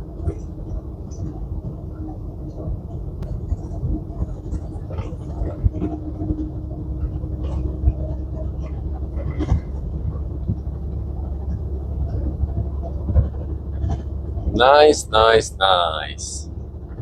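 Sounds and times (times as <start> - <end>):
knocks and rattles in cab: 0.0 - 14.6
diesel truck engine rumbling: 0.0 - 17.0
steady hum: 0.0 - 17.0.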